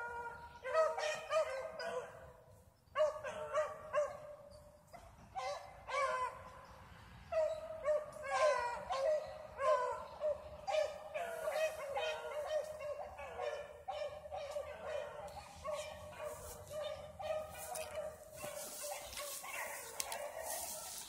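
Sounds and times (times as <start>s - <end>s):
dogs barking: 0.0s - 6.7s, 7.3s - 21.0s.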